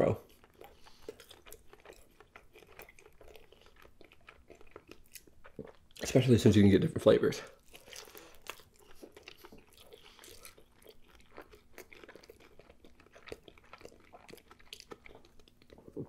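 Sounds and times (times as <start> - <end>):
person biting and chewing: 0.2 - 6.0, 7.5 - 16.0.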